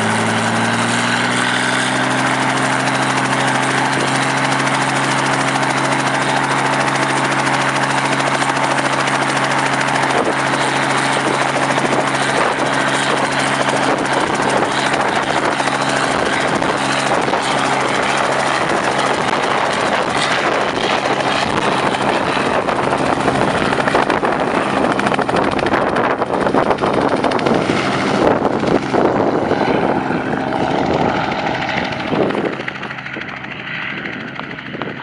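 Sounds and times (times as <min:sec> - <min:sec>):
helicopter rotor and engine: 0:00.0 - 0:35.0.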